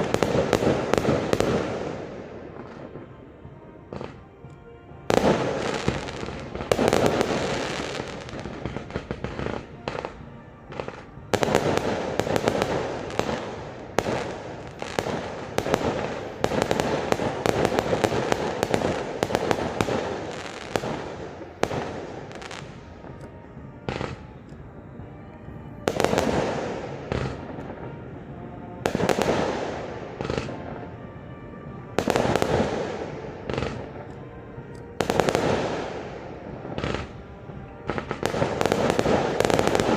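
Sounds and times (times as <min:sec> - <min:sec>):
fireworks bursts and crackling: 0:00.0 - 0:39.9.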